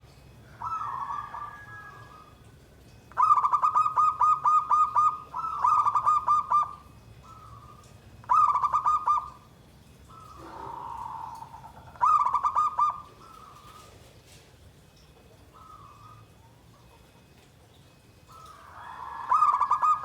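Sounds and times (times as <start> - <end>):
dove cooing: 0.4 - 2.5, 3.1 - 14.6, 15.4 - 17.2, 18.3 - 20.0.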